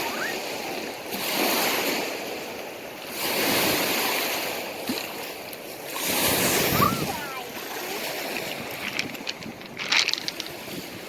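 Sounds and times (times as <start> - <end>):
lake waves washing onto shore: 0.0 - 11.0.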